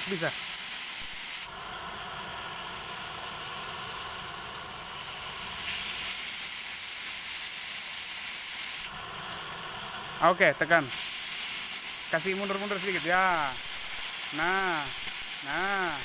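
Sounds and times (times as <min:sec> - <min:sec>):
cutting torch hissing: 0:00.0 - 0:16.0.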